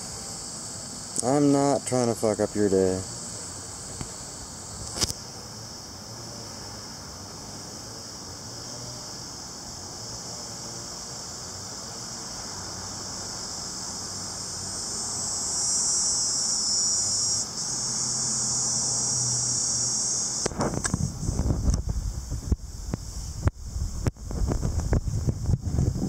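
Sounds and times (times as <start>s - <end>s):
cicada buzzing: 0.0s - 26.0s.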